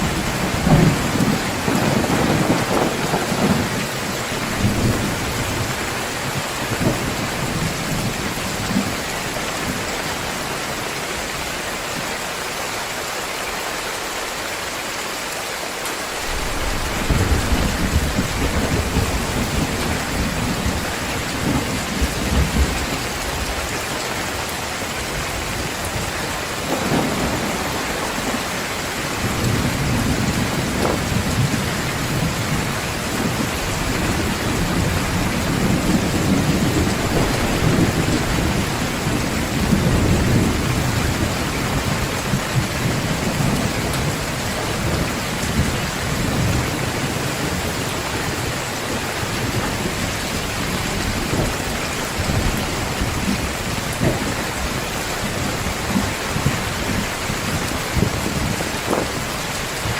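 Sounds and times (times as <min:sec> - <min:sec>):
low thunder rumbling: 0:00.0 - 0:10.4, 0:16.1 - 0:59.9
heavy rain pouring: 0:00.0 - 0:59.9.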